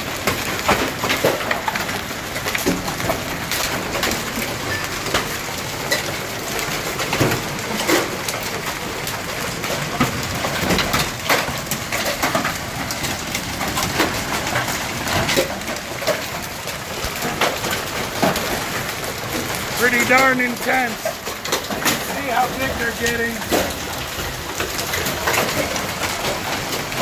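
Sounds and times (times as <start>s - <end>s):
hail hissing: 0.0s - 27.0s
hailstones cracking on ground: 0.0s - 27.0s.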